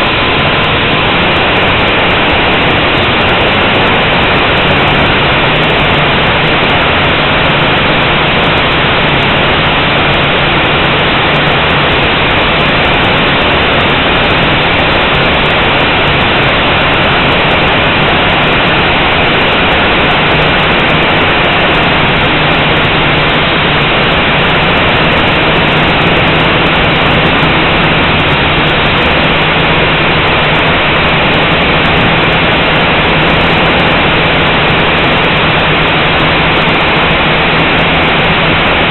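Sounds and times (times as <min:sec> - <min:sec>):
quadcopter propellers whirring: 0:00.0 - 0:38.9.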